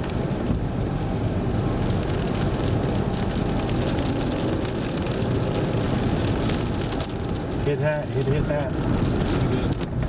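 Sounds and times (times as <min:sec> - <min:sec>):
vehicle road and engine rumble: 0:00.0 - 0:10.0.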